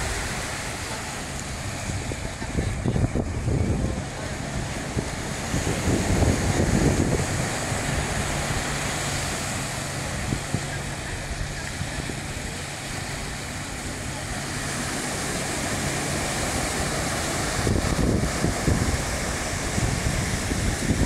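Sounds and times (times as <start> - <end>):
people chattering: 0.0 - 21.0
small waves washing onto sand: 0.0 - 21.0
wind buffeting microphone: 0.0 - 21.0.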